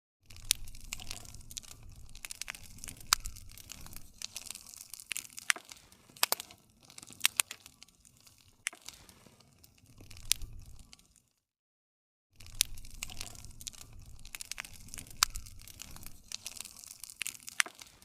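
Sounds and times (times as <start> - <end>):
campfire crackling and popping: 0.2 - 11.4, 12.4 - 18.0.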